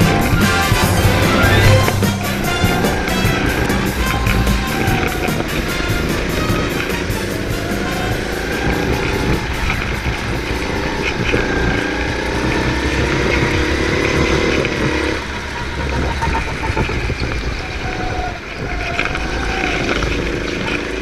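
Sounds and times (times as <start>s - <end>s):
high whine: 0.0s - 20.9s
go-kart motor and tyre noise: 0.0s - 21.0s.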